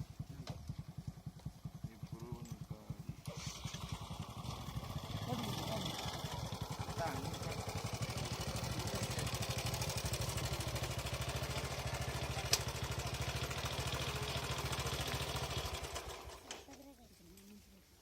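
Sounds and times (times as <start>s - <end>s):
motorcycle engine putter: 0.2s - 16.8s.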